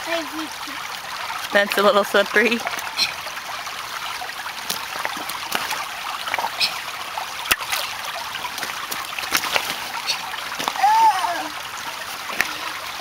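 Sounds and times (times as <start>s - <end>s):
creek trickling over stones: 0.0s - 13.0s.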